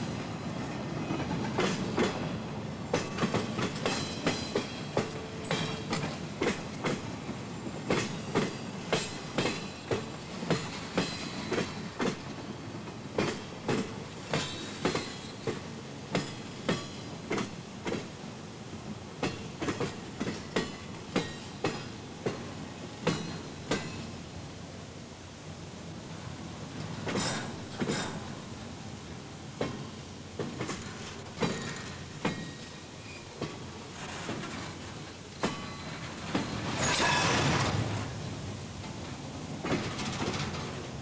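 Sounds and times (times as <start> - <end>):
train wheels clacking over rail joints: 0.6 - 2.3, 2.9 - 18.2, 19.2 - 24.1, 26.7 - 28.4, 29.6 - 38.2, 38.8 - 41.0.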